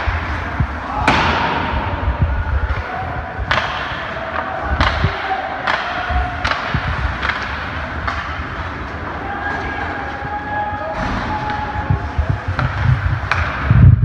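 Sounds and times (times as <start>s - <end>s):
hockey sticks clacking on puck: 0.0s - 13.8s
puck hitting boards: 0.0s - 13.8s
low rink rumble: 0.0s - 14.0s.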